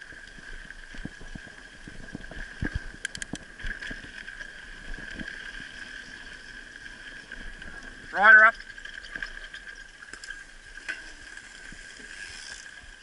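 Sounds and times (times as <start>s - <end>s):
bike tyres rolling on dirt: 0.0s - 13.0s.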